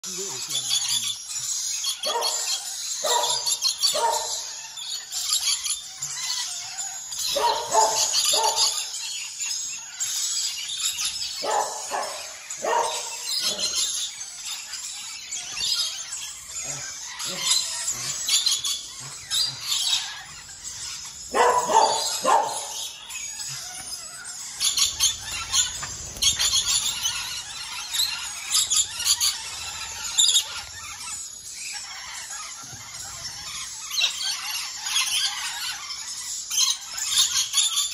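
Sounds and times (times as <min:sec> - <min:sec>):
parrots screeching and chattering: 0:00.0 - 0:37.9.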